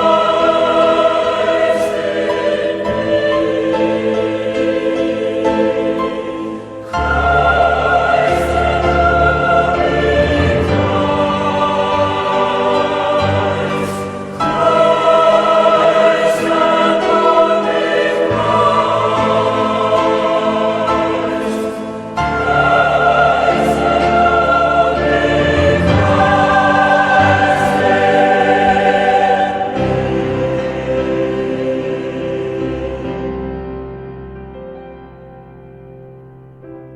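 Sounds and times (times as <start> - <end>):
choir singing held chords: 0.0 - 34.8
instrumental accompaniment: 0.0 - 36.9.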